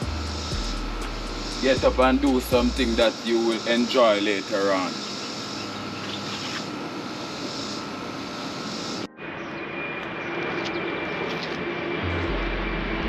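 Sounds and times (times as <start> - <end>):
engine-like drone: 0.0 - 13.0
faint steady whine: 0.0 - 13.0.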